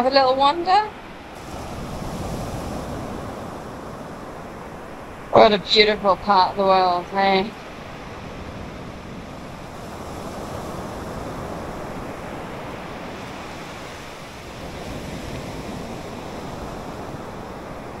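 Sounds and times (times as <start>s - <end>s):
waves washing up beach: 0.1s - 18.0s.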